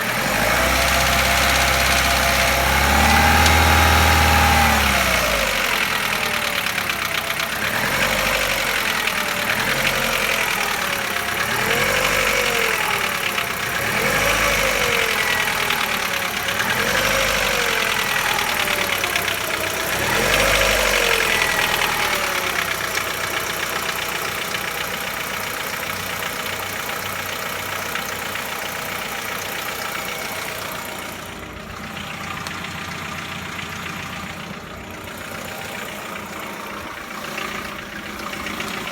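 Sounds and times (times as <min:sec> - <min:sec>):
car engine revving and idling: 0:00.0 - 0:38.9
engine knock: 0:00.0 - 0:38.9.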